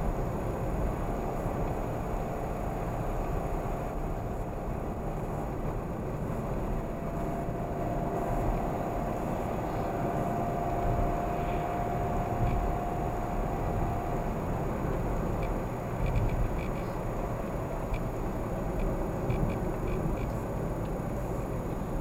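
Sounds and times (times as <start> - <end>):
car road noise inside cabin: 0.0 - 22.0.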